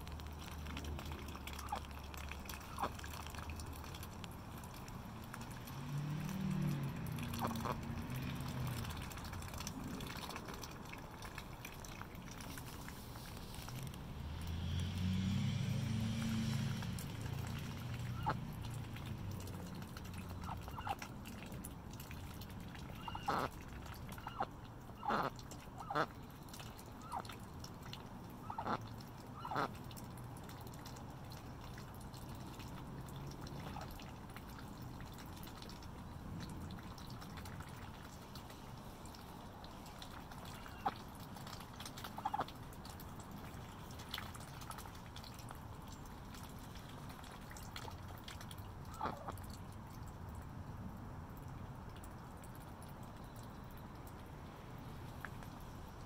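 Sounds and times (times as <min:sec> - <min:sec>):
ducks dabbling in wet mud: 0:00.0 - 0:56.0.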